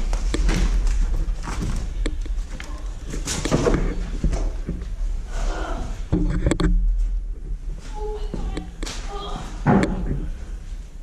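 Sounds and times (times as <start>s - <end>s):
knocks and clunks of people moving: 0.0s - 11.0s
low steady rumble: 0.0s - 11.0s.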